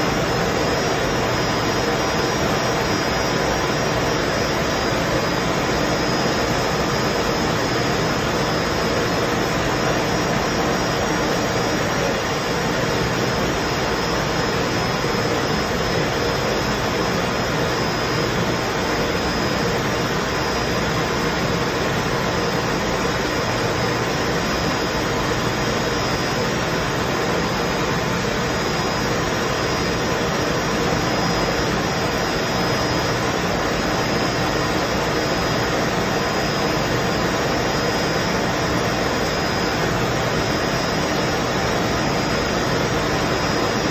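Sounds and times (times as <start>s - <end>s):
faint high whine: 0.0s - 43.9s
machine running steadily: 0.0s - 43.9s.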